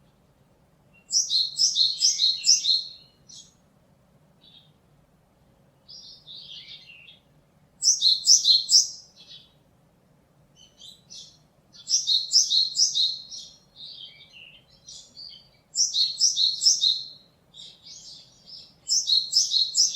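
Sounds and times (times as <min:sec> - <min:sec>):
soft bird calls: 0:00.9 - 0:03.6, 0:04.4 - 0:04.8, 0:05.8 - 0:09.6, 0:10.6 - 0:19.9.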